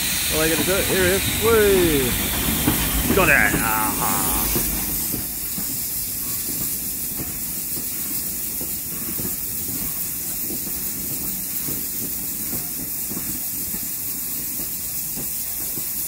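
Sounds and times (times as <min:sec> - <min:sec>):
steady steam hiss: 0:00.0 - 0:16.0
train wheels rumbling with knocks: 0:00.0 - 0:16.0.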